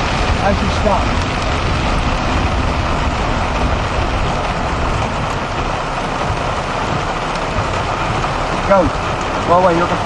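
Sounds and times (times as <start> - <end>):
engine rumbling: 0.0 - 10.0
heavy rain drumming on car roof: 0.0 - 10.0.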